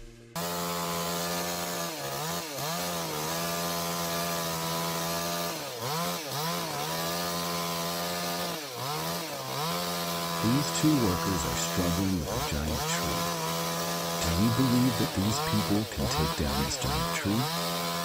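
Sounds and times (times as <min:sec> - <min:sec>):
chainsaw cutting wood: 0:00.1 - 0:18.0.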